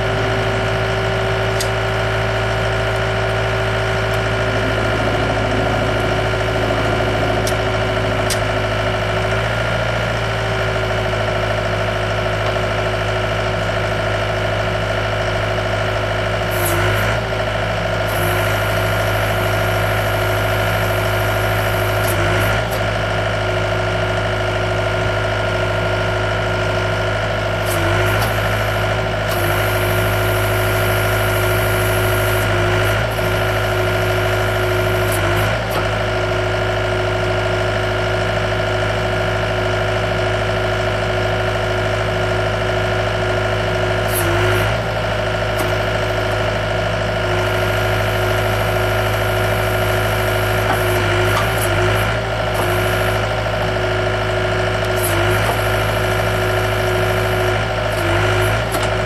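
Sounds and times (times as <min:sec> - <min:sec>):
loader engine idling: 0:00.0 - 0:59.0.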